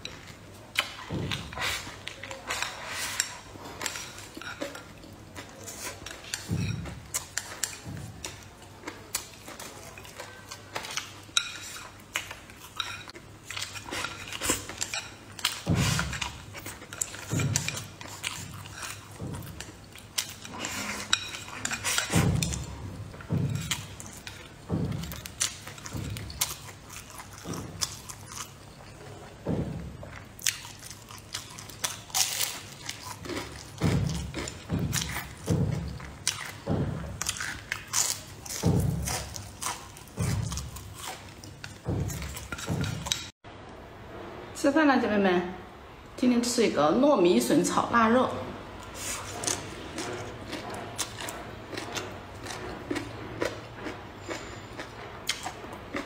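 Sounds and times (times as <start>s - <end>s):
person chewing: 0.0s - 43.3s, 48.8s - 56.0s.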